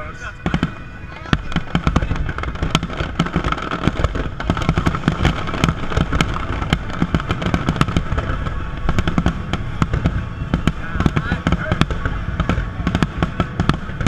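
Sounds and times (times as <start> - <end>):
continuous low rumble: 0.0 - 14.0
firework shells bursting: 0.4 - 14.0.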